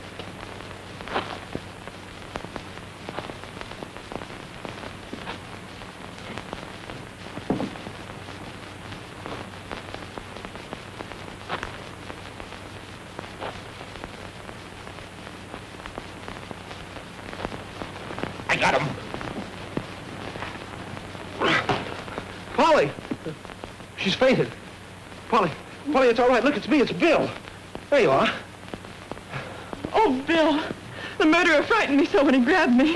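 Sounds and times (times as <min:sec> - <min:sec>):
film soundtrack hiss and crackle: 0:00.0 - 0:32.9
low steady hum: 0:00.0 - 0:32.9.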